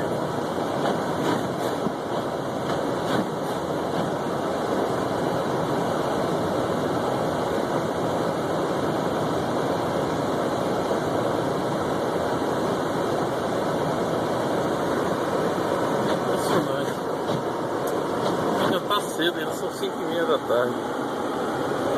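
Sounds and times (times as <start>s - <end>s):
car road and wind noise: 0.0s - 21.9s.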